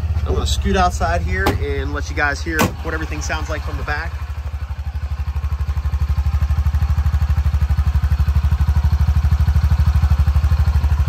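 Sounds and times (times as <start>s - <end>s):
engine idling putter: 0.0s - 11.0s.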